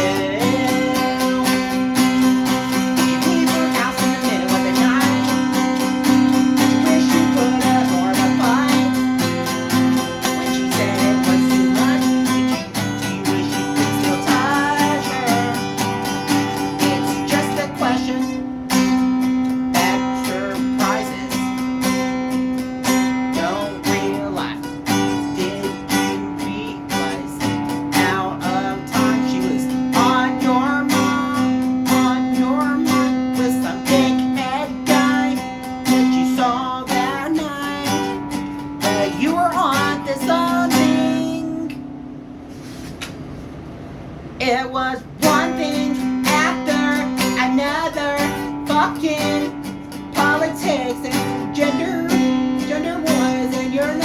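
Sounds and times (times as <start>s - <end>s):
person singing: 0.0s - 41.8s, 44.4s - 54.0s
acoustic guitar strumming: 0.0s - 54.0s.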